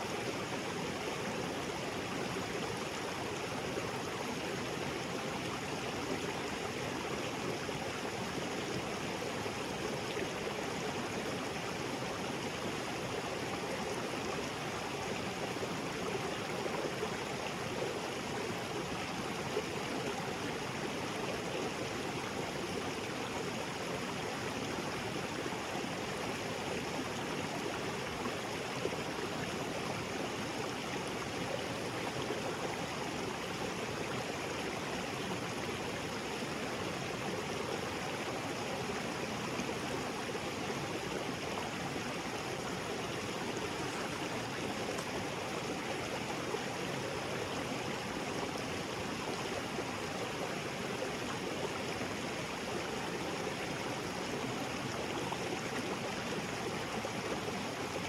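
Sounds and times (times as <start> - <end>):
small waterfall splashing: 0.4 - 58.0.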